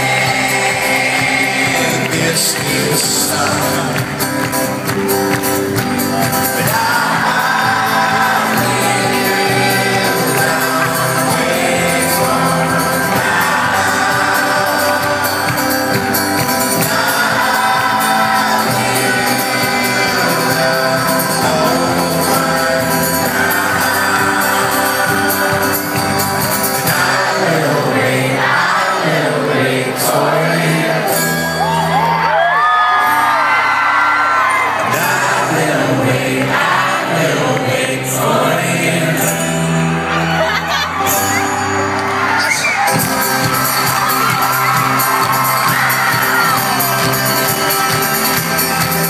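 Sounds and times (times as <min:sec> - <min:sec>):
live band playing with singing: 0:00.0 - 0:49.0.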